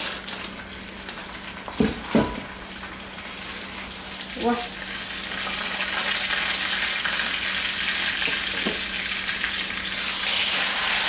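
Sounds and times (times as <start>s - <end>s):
chicken sizzling in a skillet: 0.0s - 11.0s.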